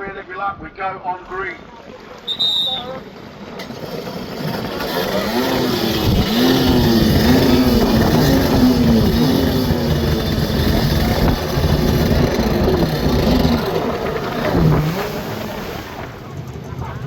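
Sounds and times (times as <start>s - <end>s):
jet ski engines revving: 2.2s - 17.0s
broad rushing noise: 2.7s - 17.0s.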